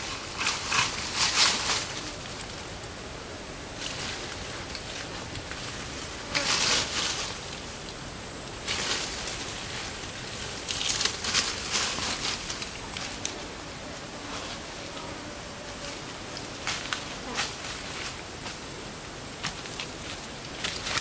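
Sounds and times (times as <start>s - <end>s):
dry leaves and brush rustling: 0.0s - 21.0s
steady forest hiss: 0.0s - 21.0s.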